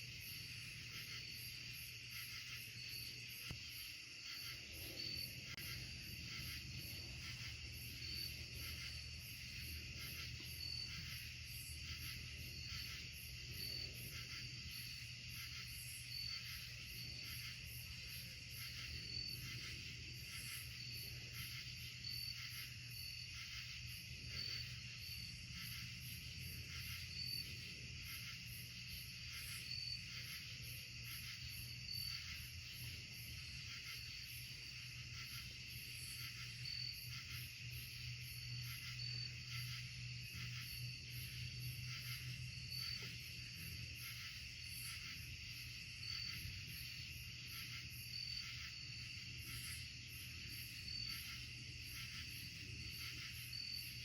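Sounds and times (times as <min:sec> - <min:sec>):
insects buzzing and trilling: 0:00.0 - 0:54.0.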